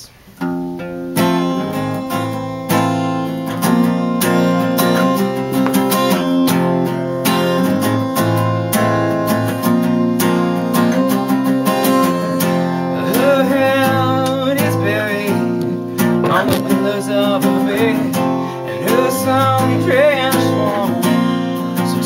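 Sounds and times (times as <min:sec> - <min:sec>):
acoustic guitar strummed: 0:00.0 - 0:22.0.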